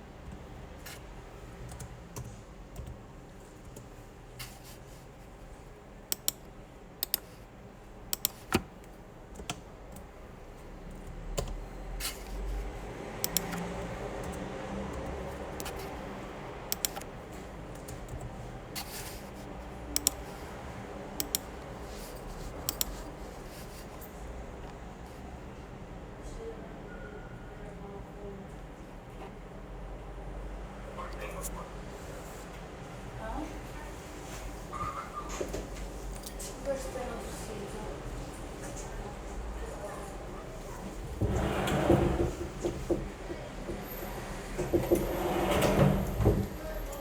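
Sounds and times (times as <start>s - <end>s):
low background noise: 0.0s - 47.0s.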